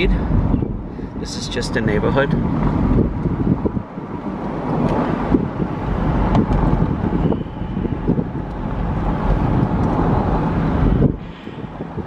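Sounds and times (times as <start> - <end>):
car road noise: 0.0 - 12.0
wind buffeting microphone: 0.0 - 12.0.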